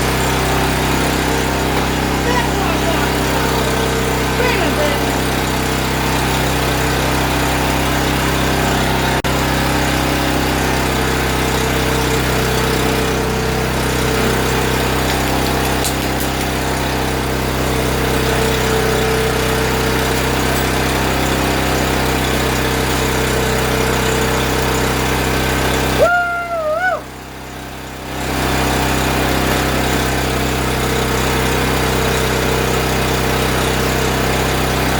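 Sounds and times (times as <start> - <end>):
generator engine running: 0.0 - 34.9.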